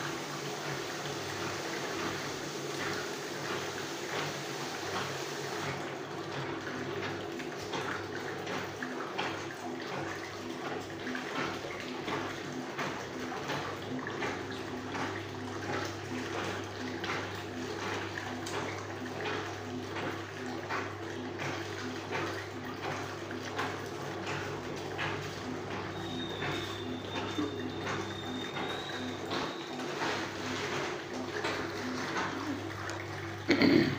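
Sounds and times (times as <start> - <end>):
steady pump hum: 0.0 - 33.9
water churning and splashing: 0.0 - 33.9.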